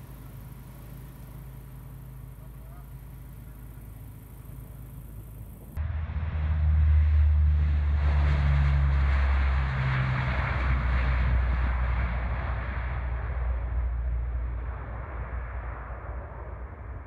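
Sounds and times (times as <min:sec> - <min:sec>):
propeller plane engines drone: 0:00.0 - 0:17.0.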